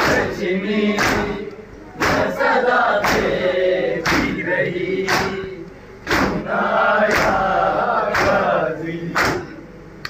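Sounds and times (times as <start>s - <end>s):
men chanting in unison: 0.0s - 9.7s.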